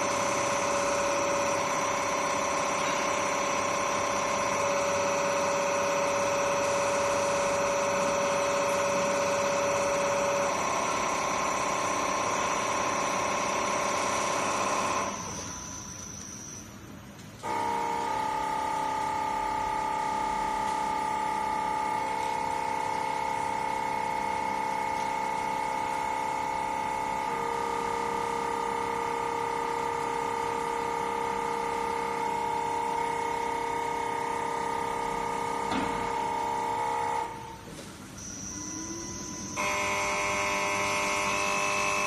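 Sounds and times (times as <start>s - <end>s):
test bench machine humming with whine: 0.0s - 42.0s.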